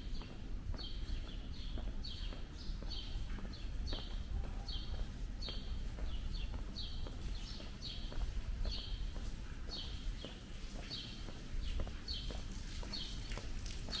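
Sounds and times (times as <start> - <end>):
footsteps on cobblestones: 0.0 - 14.0.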